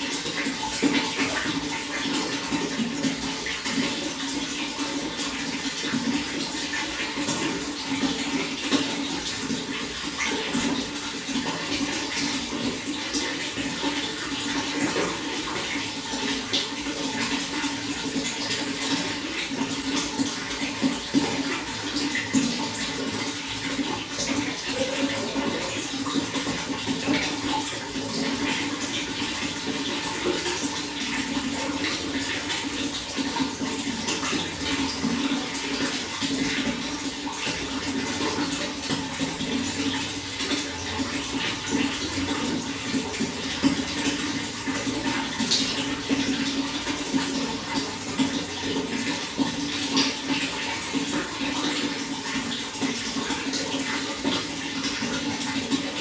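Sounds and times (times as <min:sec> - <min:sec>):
running water gurgling: 0:00.0 - 0:56.0.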